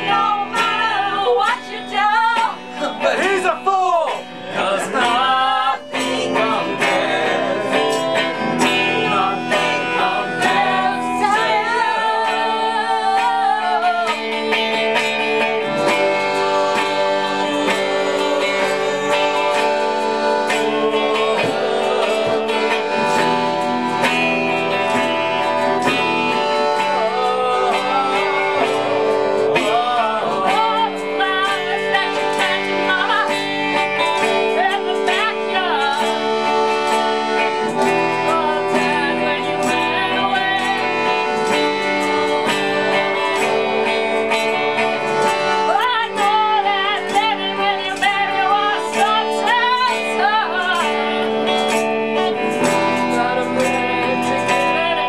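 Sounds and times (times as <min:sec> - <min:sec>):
concertina chords: 0:00.0 - 0:55.0
person singing: 0:00.0 - 0:55.0
strummed guitar: 0:00.0 - 0:55.0.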